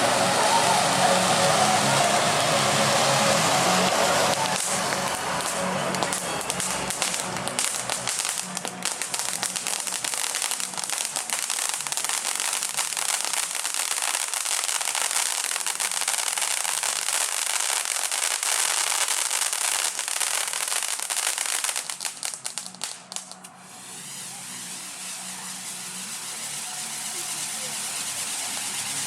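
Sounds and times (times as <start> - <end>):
fireworks crackling: 0.0 - 29.0.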